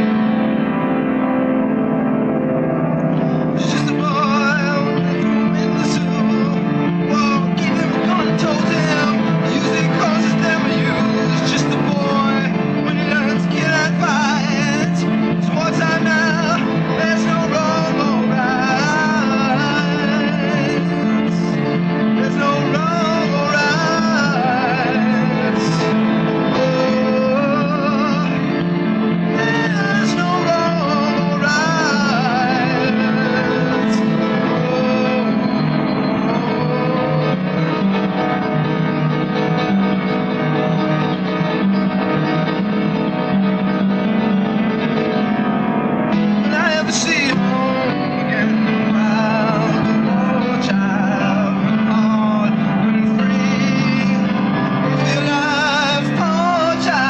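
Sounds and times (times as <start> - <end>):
guitar: 0.0 - 57.0
keyboard: 0.0 - 57.0.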